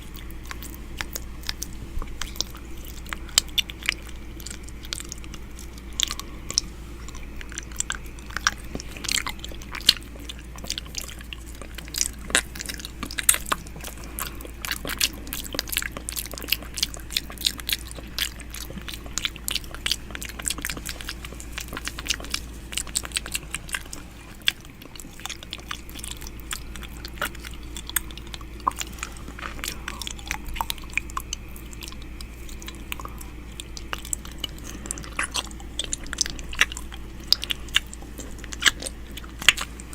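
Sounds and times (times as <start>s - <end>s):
steady low hum: 0.0s - 39.9s
wet mouth clicks and licking: 0.0s - 39.9s.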